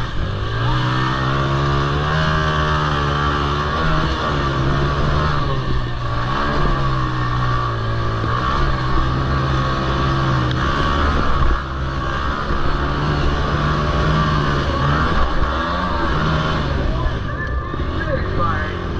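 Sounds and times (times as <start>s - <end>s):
quad engines revving: 0.0s - 18.9s.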